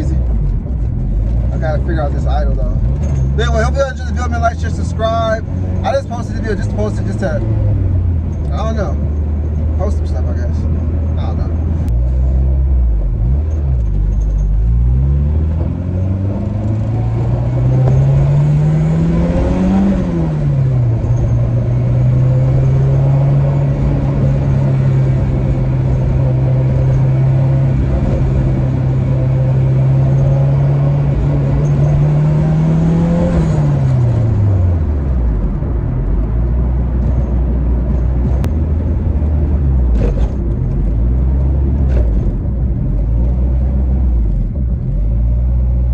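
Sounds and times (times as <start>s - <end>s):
turbocharged car engine accelerating: 0.0s - 45.9s.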